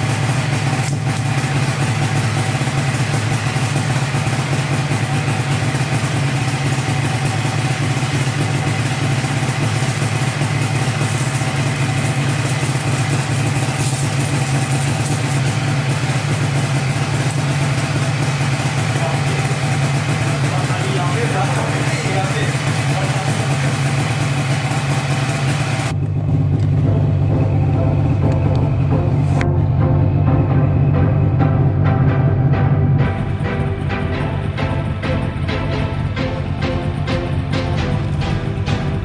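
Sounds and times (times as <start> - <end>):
snowmobile engine idling: 0.0 - 39.0.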